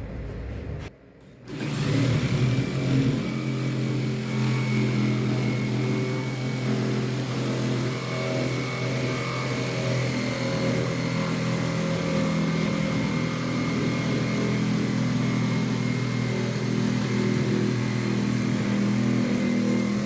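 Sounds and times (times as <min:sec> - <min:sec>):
machine motor running: 0:01.4 - 0:20.0.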